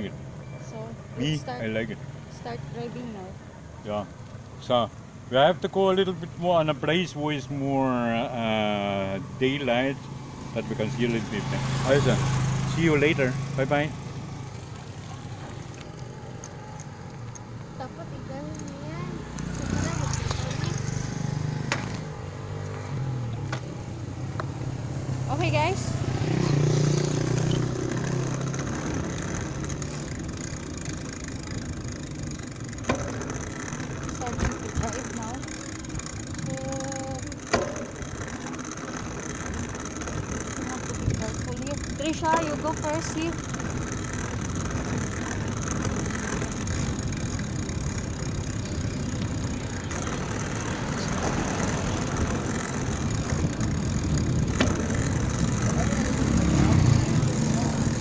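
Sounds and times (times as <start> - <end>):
road noise: 0.0 - 58.0
traffic rumble: 0.0 - 58.0
vehicle engine hum: 0.0 - 58.0.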